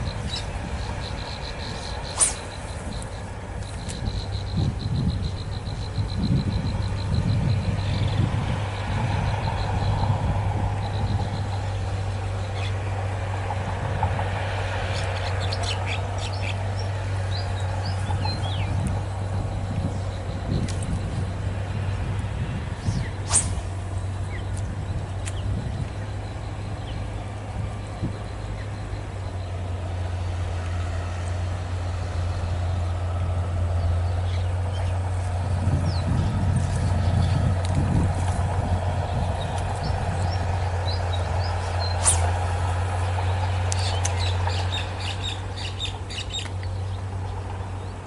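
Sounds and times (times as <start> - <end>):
small birds chirping: 0.0 - 10.1, 10.8 - 12.8, 14.9 - 22.1, 22.8 - 30.7, 33.7 - 37.6, 38.2 - 42.4, 43.0 - 48.0
engine idling hum: 0.0 - 48.0.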